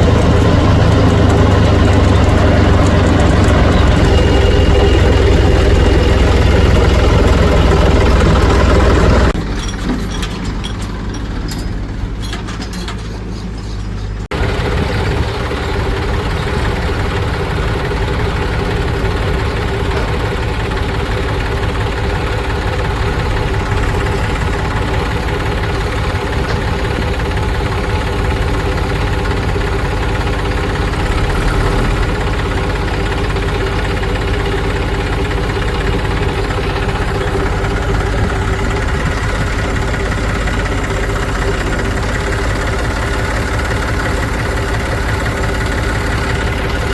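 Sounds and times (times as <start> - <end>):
diesel engine knocking clatter: 0.0 - 46.9.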